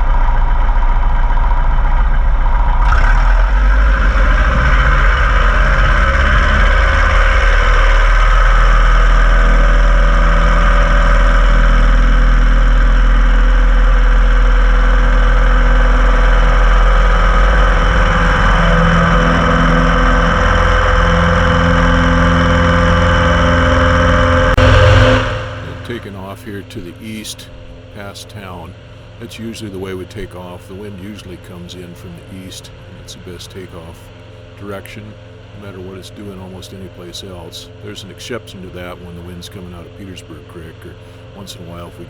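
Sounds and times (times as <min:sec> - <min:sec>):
airplane engine and propeller: 0:00.0 - 0:42.0.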